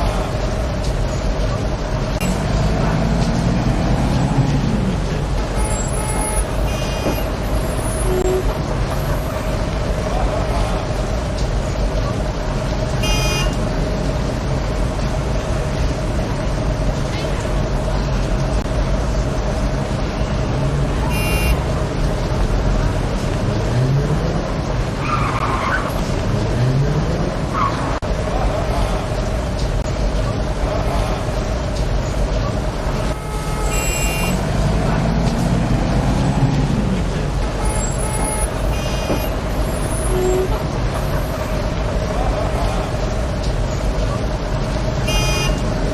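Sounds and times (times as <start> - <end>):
traffic engines rumbling: 0.0 - 45.9.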